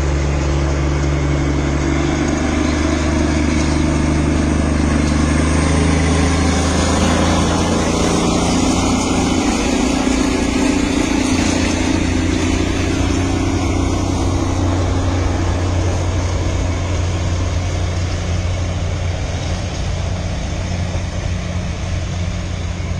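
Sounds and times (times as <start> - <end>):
travel noise: 0.0 - 22.9
vehicle engine humming: 0.0 - 22.9.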